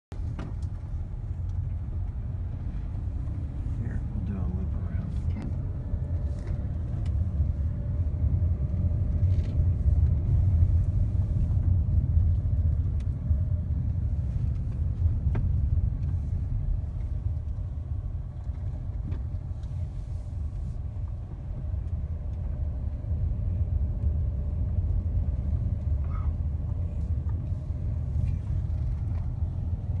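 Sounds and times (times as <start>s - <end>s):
car rumbling from inside: 0.1s - 30.0s.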